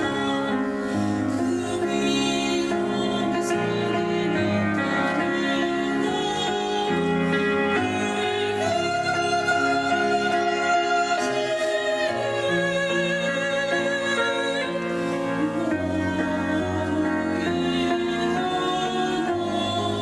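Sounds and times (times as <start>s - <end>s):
choir singing: 0.0s - 20.0s
instrumental accompaniment: 0.0s - 20.0s.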